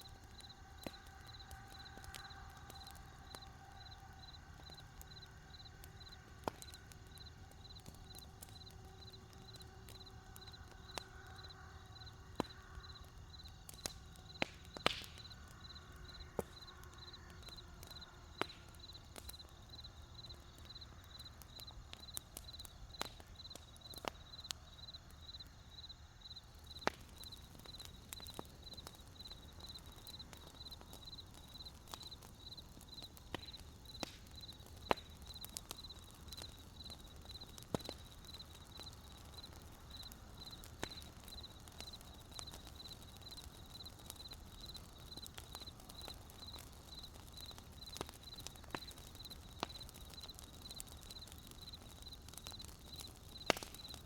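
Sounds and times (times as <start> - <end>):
crickets chirping: 0.0 - 54.0
wood campfire crackling: 0.0 - 54.0.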